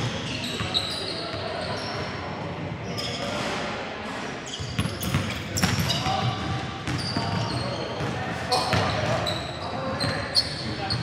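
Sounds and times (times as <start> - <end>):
sneaker squeaks: 0.0 - 3.7, 4.3 - 11.0.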